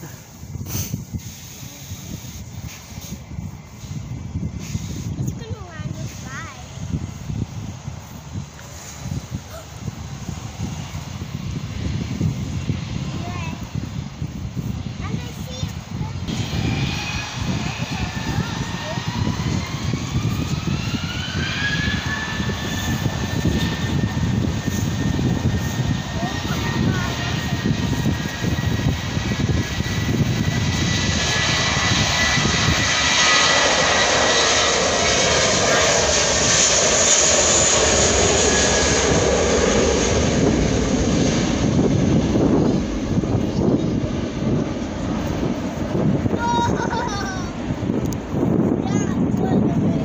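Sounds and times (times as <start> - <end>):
broad rumble: 0.0 - 50.0
jet engines spooling up: 0.0 - 50.0.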